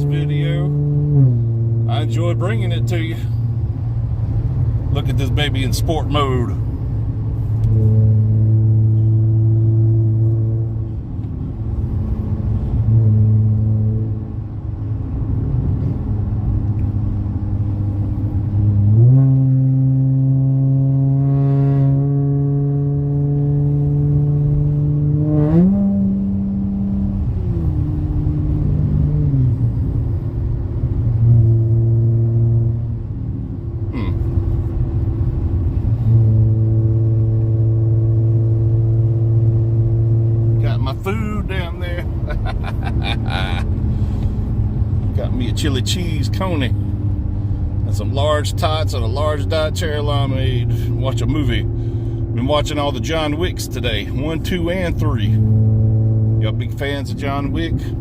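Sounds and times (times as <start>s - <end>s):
car engine and exhaust drone: 0.0s - 58.0s.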